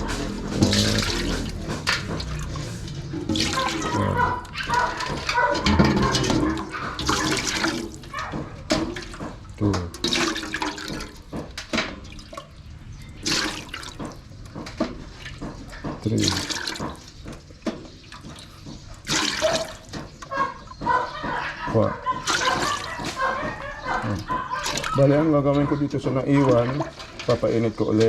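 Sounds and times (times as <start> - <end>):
liquid pouring and splashing: 0.0 - 20.3, 22.2 - 23.4, 24.0 - 28.0.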